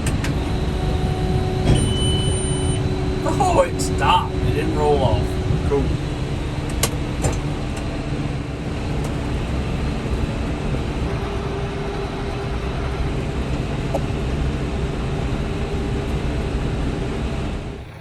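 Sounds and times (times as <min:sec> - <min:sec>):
hay baler running: 0:00.0 - 0:18.0
tractor engine running: 0:00.0 - 0:18.0.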